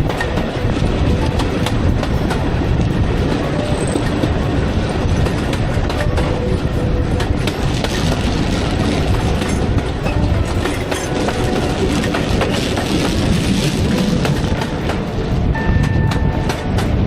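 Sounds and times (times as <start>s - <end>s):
train carriage rumble: 0.0s - 17.0s.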